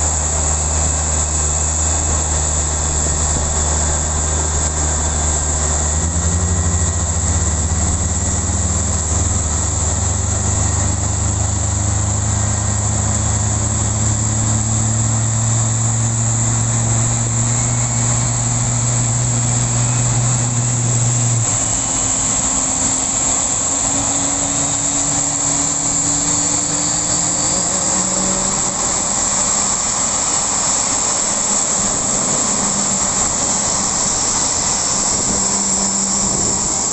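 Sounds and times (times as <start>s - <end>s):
faint shifting tones: 0.0s - 36.9s
jet turbine hiss: 0.0s - 36.9s
low hum: 0.0s - 36.9s.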